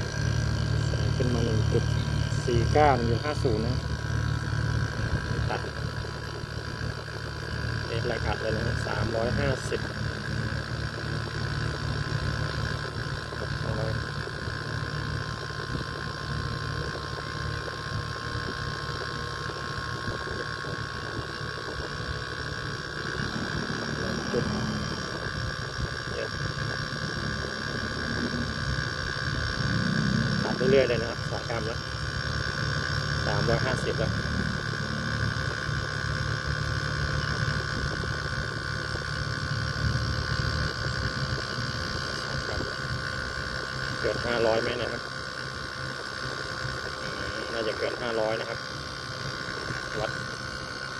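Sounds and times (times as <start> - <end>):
compressor humming with whine: 0.0 - 50.9.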